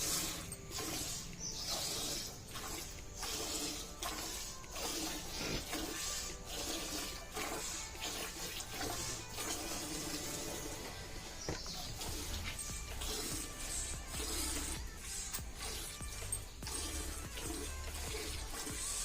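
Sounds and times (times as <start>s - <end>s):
milk squirting into a pail: 0.0s - 19.0s.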